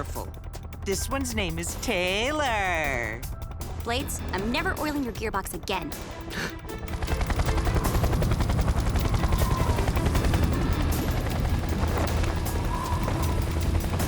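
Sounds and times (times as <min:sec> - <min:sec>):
cartoon helicopter rotor chopping: 0:00.0 - 0:14.0.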